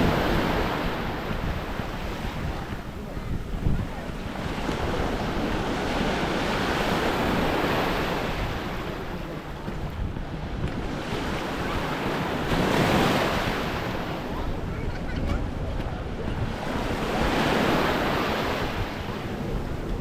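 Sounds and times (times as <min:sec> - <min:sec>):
waves washing onto beach: 0:00.0 - 0:20.0
wind buffeting microphone: 0:00.0 - 0:20.0.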